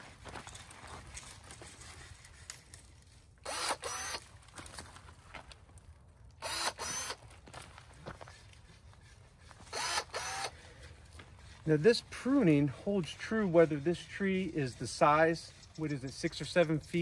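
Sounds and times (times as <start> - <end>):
leaves and twigs rustling: 0.0 - 17.0
pruners cutting branches: 1.4 - 4.8, 6.3 - 17.0.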